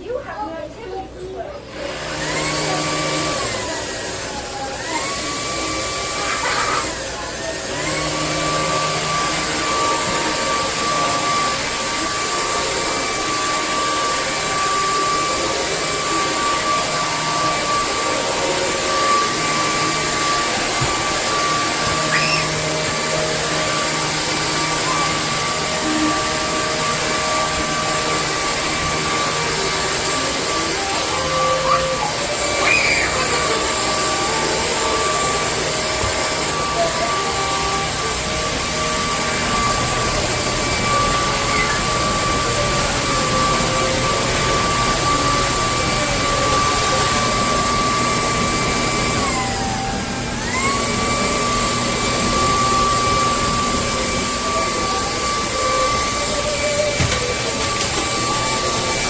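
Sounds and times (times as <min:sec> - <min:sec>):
stick vacuum running with high whine: 0:00.0 - 0:59.0.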